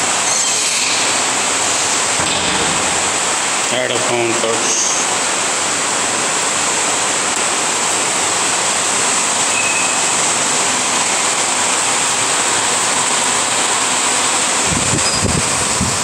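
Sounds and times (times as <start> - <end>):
loud rushing hiss: 1.0 - 16.0.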